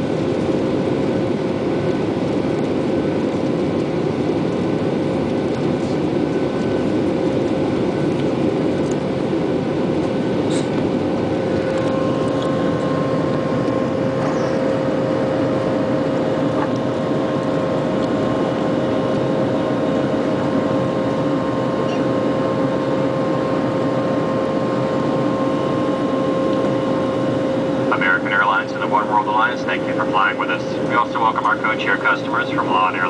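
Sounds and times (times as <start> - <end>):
airliner cabin drone: 0.0 - 33.0
steady whine: 0.0 - 33.0.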